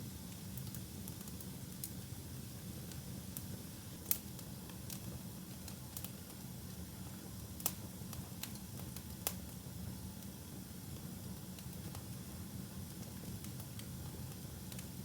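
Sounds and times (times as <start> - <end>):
fire crackling and popping: 0.3 - 9.6, 10.2 - 15.0.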